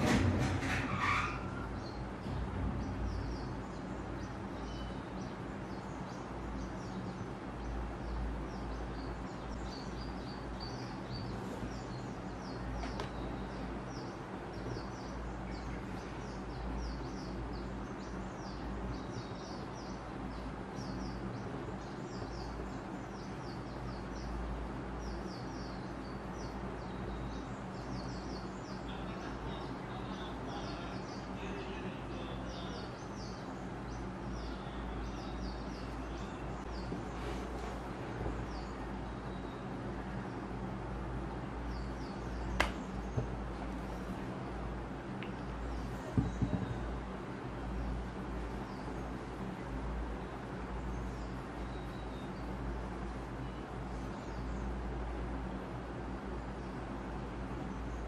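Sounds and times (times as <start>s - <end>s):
small birds chirping: 0.0s - 58.0s
steady background hum: 0.0s - 58.0s.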